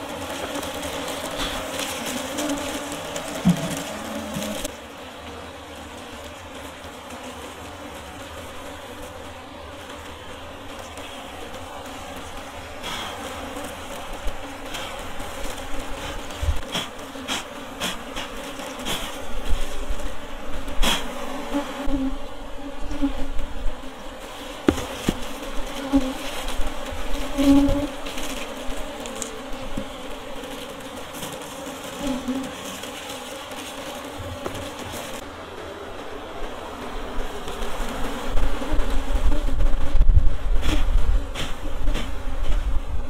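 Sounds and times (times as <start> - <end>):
bees buzzing: 0.0 - 43.0.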